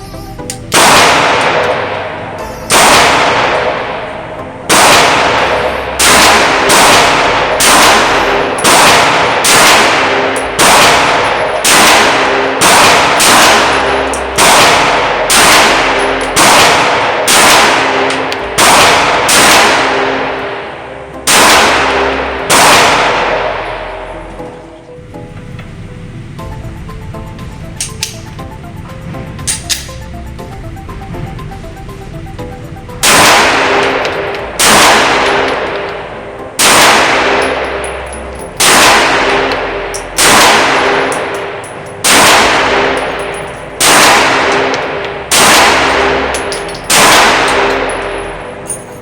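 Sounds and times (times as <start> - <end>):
pistol shots ringing: 0.5 - 24.3, 27.8 - 31.0, 32.4 - 49.0.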